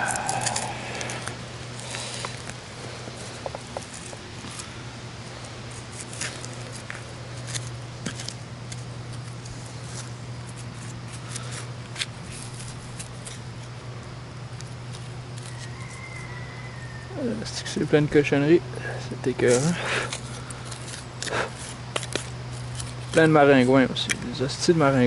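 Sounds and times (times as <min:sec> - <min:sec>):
digging in soil and leaves: 0:00.0 - 0:25.0
low steady hum: 0:00.0 - 0:25.0.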